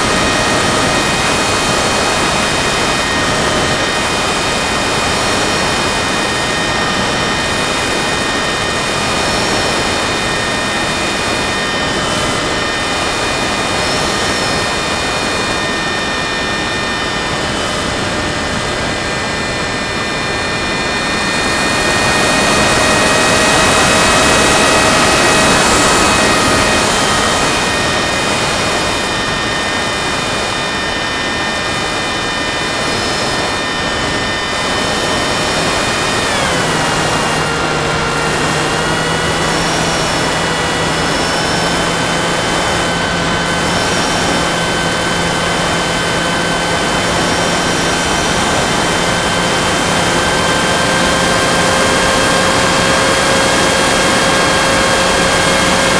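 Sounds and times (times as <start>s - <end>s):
model plane motor whine: 0.0s - 55.9s.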